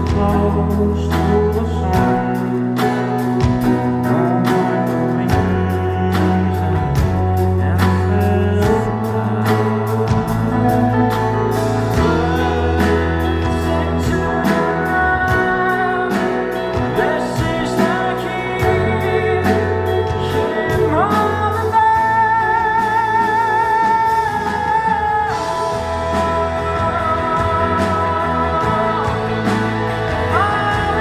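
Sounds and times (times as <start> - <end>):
bass: 0.0 - 31.0
guitar: 0.0 - 31.0.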